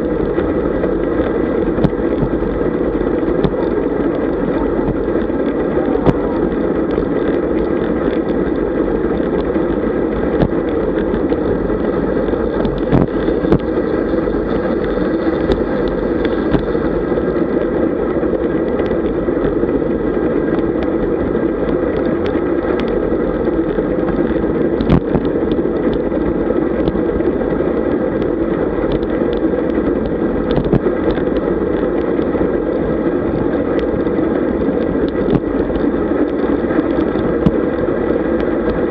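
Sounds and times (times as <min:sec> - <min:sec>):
bike tyres humming on asphalt: 0:00.0 - 0:38.9
wind on microphone: 0:00.0 - 0:38.9.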